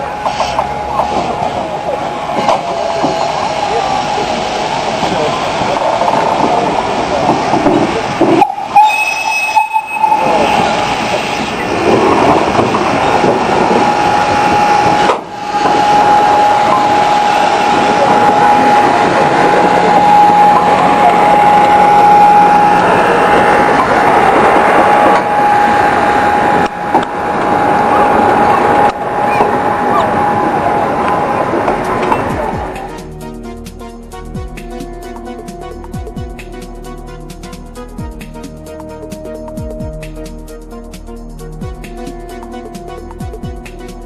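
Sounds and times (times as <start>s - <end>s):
train rolling noise: 0.0s - 44.0s.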